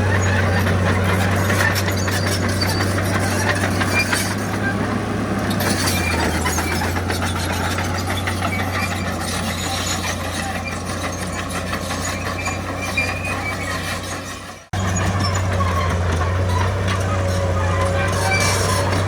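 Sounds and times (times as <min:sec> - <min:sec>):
diesel engine running: 0:00.0 - 0:19.0
short high squeaks: 0:00.1 - 0:19.0.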